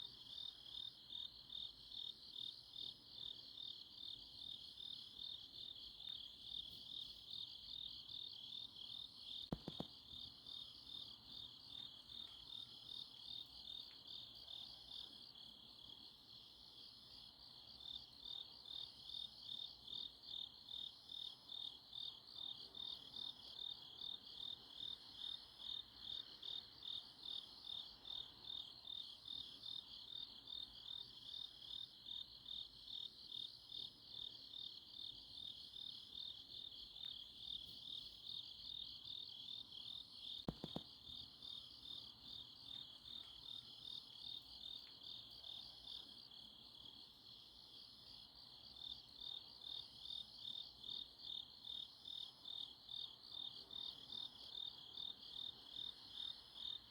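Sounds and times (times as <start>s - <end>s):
crickets chirping: 0.0s - 56.9s
faint high insect chirp: 0.0s - 56.9s.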